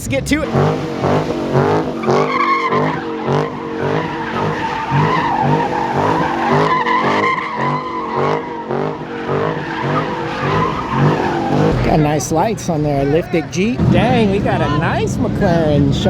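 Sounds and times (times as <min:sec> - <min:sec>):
tyres squealing: 0:00.0 - 0:14.9
car engine revving: 0:00.0 - 0:16.0.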